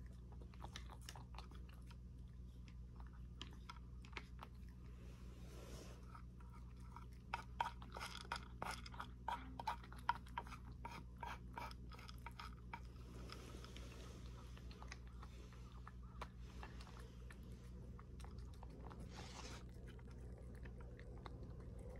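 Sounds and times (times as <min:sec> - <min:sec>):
cat crunching dry kibble: 0:00.0 - 0:05.0, 0:06.0 - 0:21.9
steady low hum: 0:00.0 - 0:21.9.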